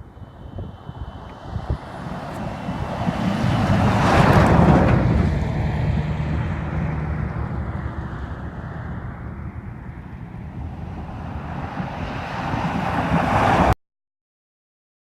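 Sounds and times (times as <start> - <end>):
car engine and tyre rumble: 0.0 - 13.8
wind on microphone: 0.0 - 13.8.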